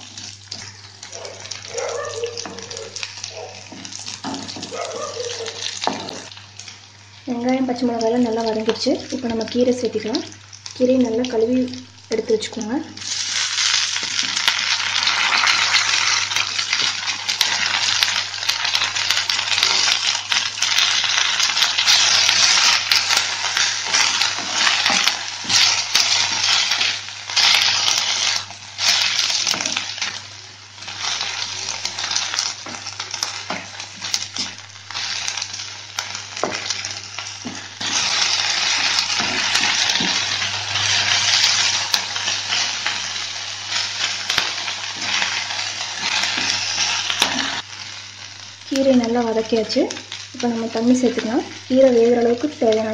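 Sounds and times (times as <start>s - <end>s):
leaves sizzling in hot oil: 0.0s - 52.9s.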